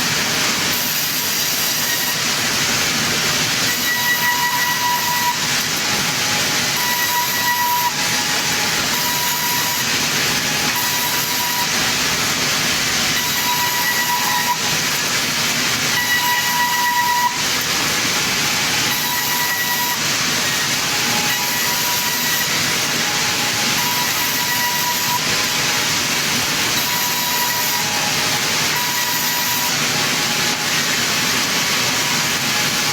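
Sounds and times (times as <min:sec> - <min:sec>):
circular saw cutting timber: 0:00.0 - 0:32.9.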